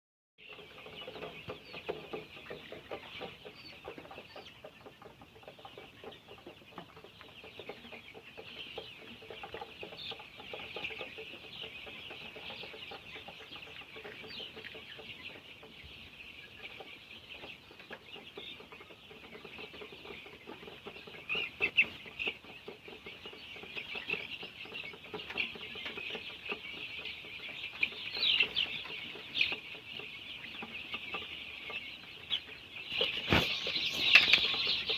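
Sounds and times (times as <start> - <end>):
chicks cheeping: 0.4 - 34.9
loud chick calls: 0.4 - 34.9.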